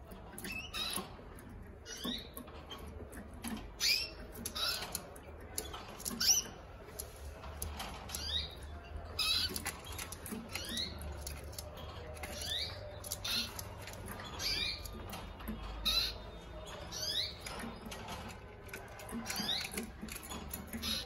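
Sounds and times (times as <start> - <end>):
canary chirping: 0.0 - 21.0.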